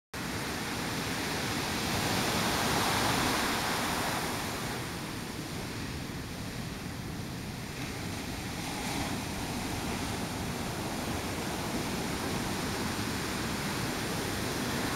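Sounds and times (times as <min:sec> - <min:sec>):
ocean waves breaking: 0:00.2 - 0:14.9.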